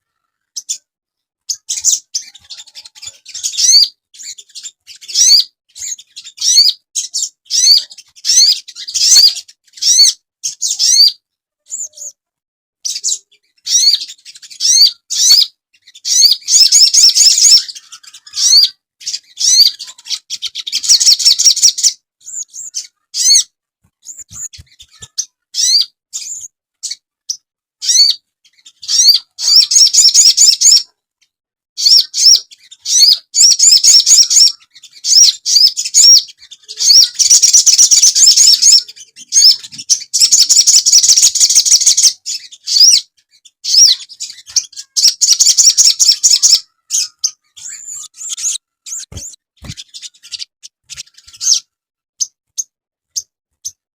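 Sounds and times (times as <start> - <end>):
bird chirping trills: 0.0 - 12.2, 12.8 - 30.9, 31.8 - 53.8.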